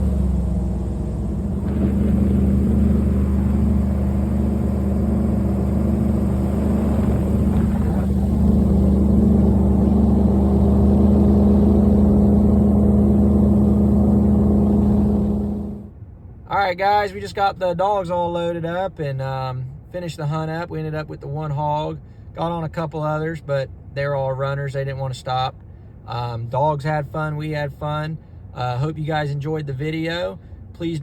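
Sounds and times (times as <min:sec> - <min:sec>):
engine droning steadily: 0:00.0 - 0:31.0.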